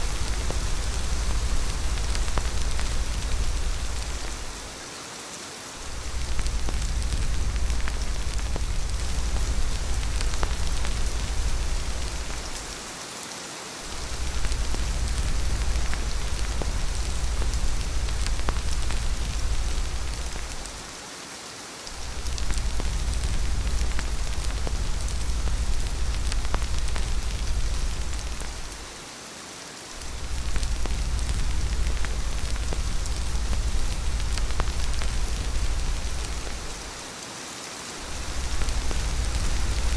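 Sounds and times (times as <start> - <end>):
low rumble: 0.0 - 4.8, 5.8 - 12.8, 13.9 - 20.9, 22.0 - 29.0, 30.0 - 37.0, 38.1 - 39.9
heavy rain falling: 0.0 - 39.9.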